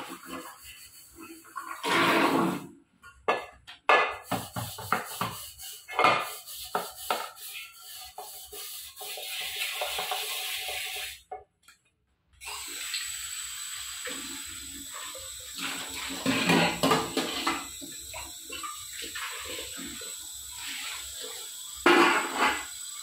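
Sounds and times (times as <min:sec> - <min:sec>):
pot being scrubbed: 0:00.0 - 0:02.6, 0:04.2 - 0:11.2, 0:14.0 - 0:23.0
tap running water: 0:00.0 - 0:02.6, 0:03.3 - 0:11.8, 0:12.4 - 0:23.0.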